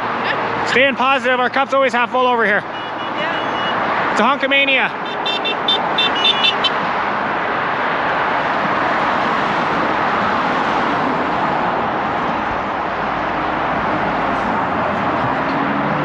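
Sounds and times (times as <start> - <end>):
cars passing on road: 0.0 - 16.0.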